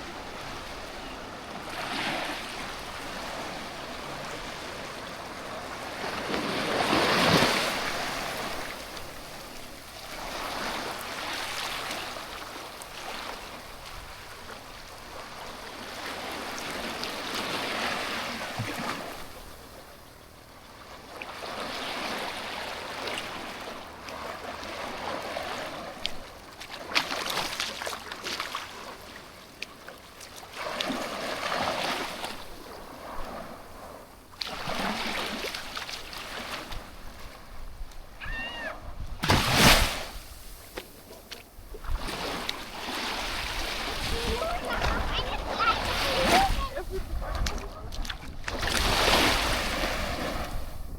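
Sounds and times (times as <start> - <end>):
sea waves breaking on beach: 0.0 - 50.9.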